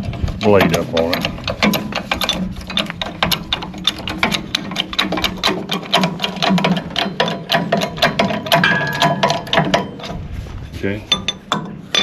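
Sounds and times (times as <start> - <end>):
ratcheting clicks: 0.0 - 10.2.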